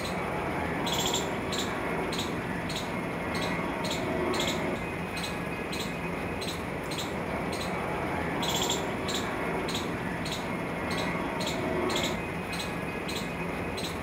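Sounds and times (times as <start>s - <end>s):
street noise hum: 0.0s - 14.0s
small bird chirping: 0.8s - 14.0s.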